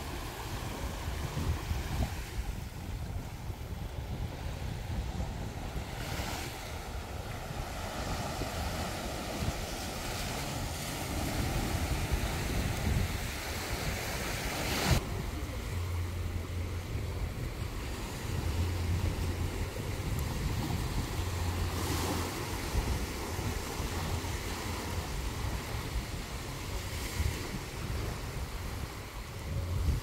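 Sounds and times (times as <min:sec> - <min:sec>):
waves washing on sandy shore: 0:00.0 - 0:30.0
wind buffeting microphone: 0:00.0 - 0:30.0.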